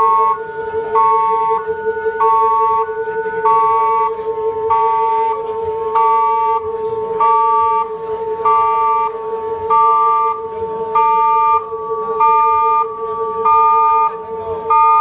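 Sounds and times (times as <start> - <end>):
electronic drone tone: 0.0 - 15.0
pulsing electronic tones: 0.0 - 15.0.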